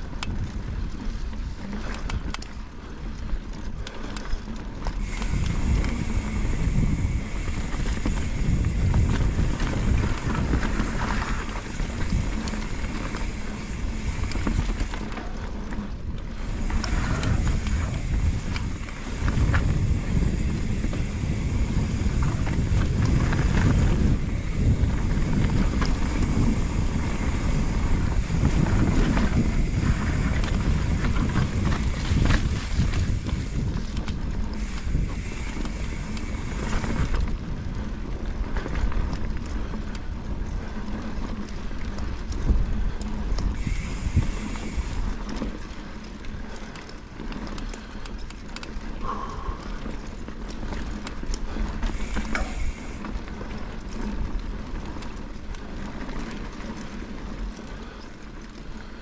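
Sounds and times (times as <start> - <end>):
bike rattling: 0.0 - 59.0
bike tyres rumbling over dirt: 0.0 - 59.0
wind rumble on microphone: 0.0 - 59.0.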